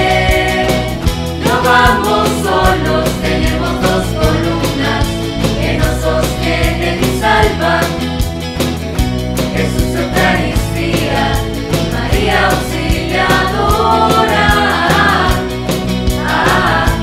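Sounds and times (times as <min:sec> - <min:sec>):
choir of young voices singing: 0:00.0 - 0:08.1, 0:09.5 - 0:17.0
drum beat and bass: 0:00.0 - 0:17.0.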